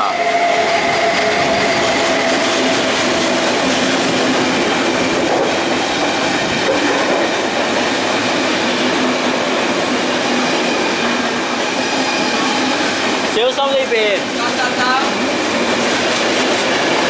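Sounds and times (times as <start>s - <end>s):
train wheels rolling on rails: 0.0s - 17.0s
clickety-clack of train wheels: 0.1s - 17.0s.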